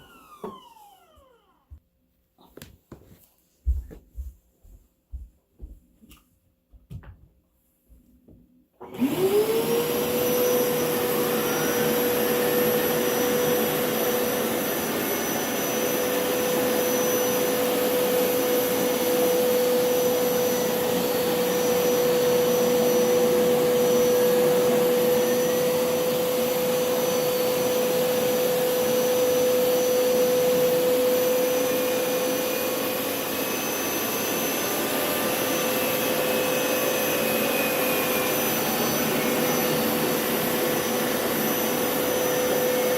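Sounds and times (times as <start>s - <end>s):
carpet cleaner motor running: 0.0s - 1.7s, 8.8s - 42.9s.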